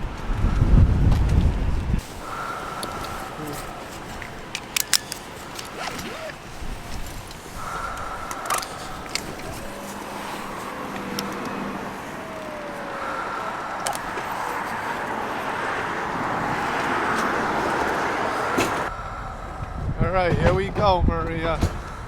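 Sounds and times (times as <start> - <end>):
vehicle noise: 0.0 - 22.0.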